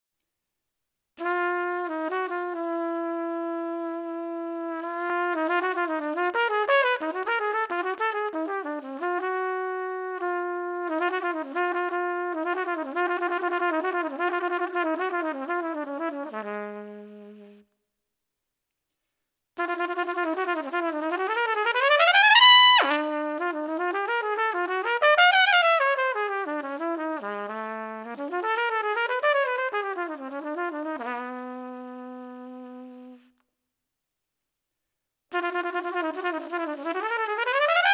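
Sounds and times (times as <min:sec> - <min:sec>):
solo trumpet playing: 0:01.2 - 0:17.7, 0:19.6 - 0:33.3, 0:35.3 - 0:37.9.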